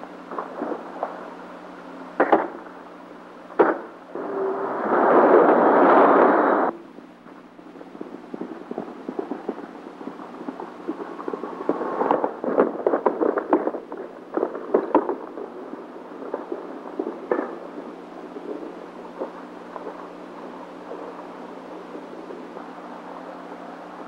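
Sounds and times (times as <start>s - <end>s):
irregular crackling and snapping: 0.0s - 24.0s
steady low hum: 0.0s - 24.0s.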